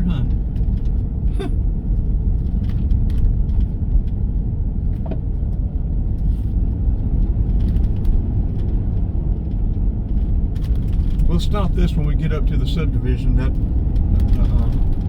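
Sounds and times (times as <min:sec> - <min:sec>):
vehicle cabin rumble: 0:00.0 - 0:15.0.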